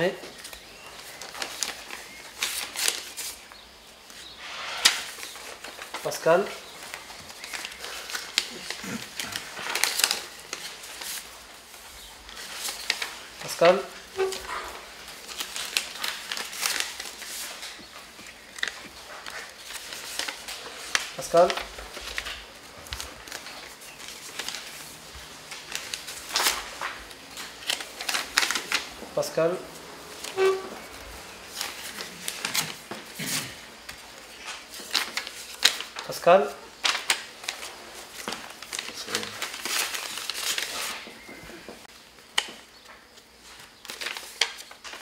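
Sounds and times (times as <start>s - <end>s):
paper rustling: 0.0s - 45.0s.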